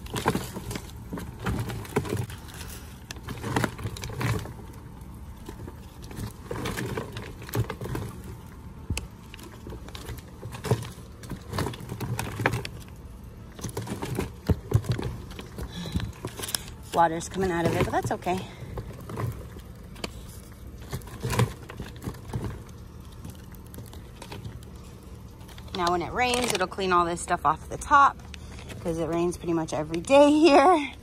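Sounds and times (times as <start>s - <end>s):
compost tumbler knocks and scrapes: 0.0s - 30.7s.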